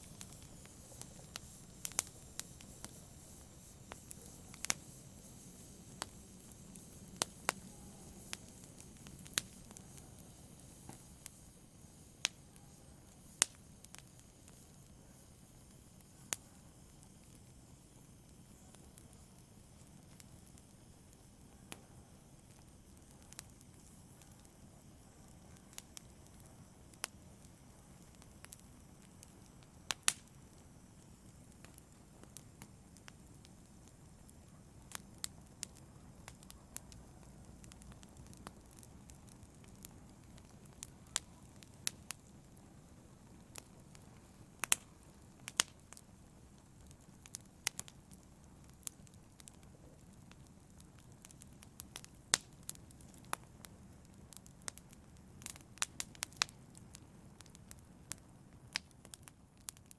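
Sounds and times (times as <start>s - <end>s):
fire crackling and popping: 0.0s - 59.9s
fire hissing: 0.0s - 59.9s.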